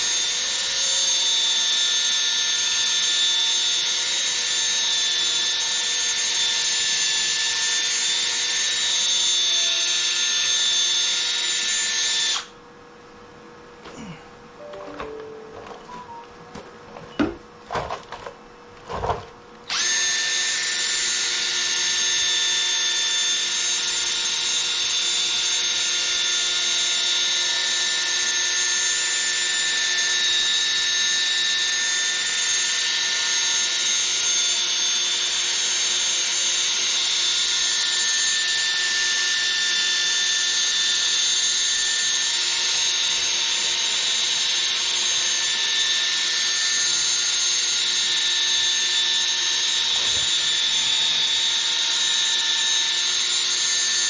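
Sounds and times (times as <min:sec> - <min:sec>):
cordless drill whining: 0:00.0 - 0:12.6, 0:19.7 - 0:54.0.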